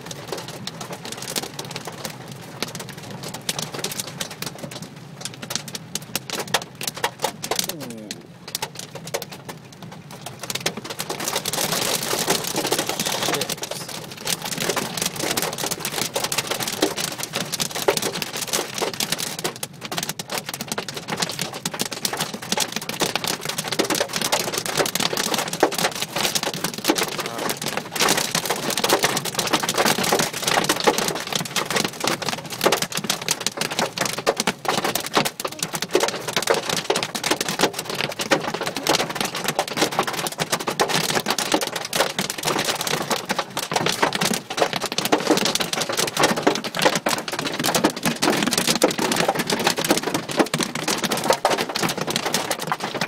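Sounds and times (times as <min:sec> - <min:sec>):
heavy rain and hail on car roof: 0:00.0 - 0:53.0.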